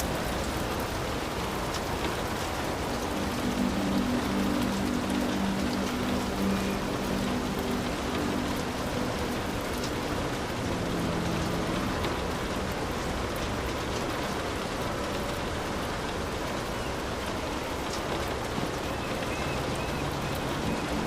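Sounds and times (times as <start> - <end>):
heavy rain on a hut: 0.0 - 21.0.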